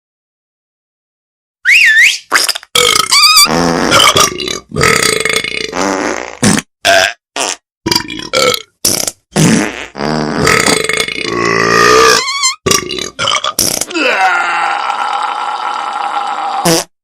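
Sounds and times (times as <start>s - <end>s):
burp sounds: 2.4s - 16.9s.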